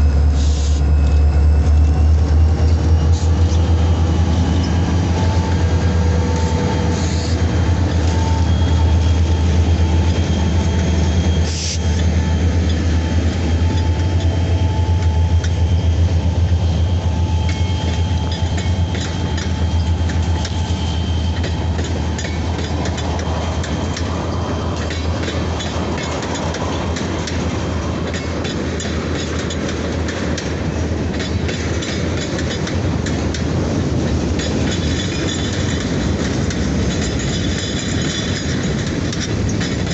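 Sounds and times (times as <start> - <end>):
rail wheels squealing: 0.0 - 33.1, 34.4 - 39.9
locomotive engine drone: 0.0 - 39.9
wheels clanking over rail joints: 0.6 - 39.9.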